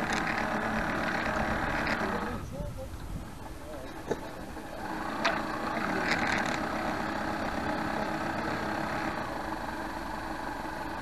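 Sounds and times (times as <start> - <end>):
model boat motor humming: 0.0 - 11.0.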